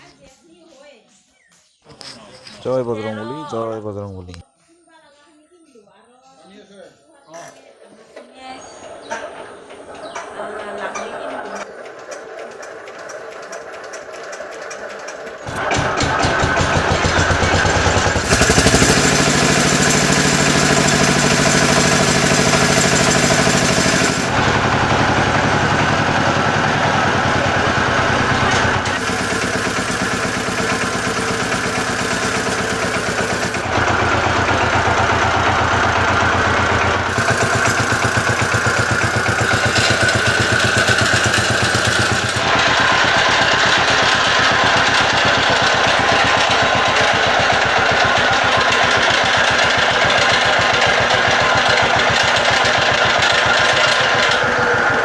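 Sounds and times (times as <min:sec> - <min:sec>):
ploughing machine engine chugging: 0:08.7 - 0:55.0.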